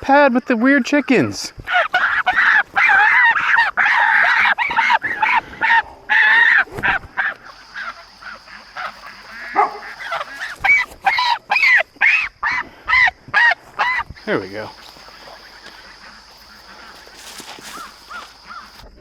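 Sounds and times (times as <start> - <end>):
geese honking: 0.5 - 19.0.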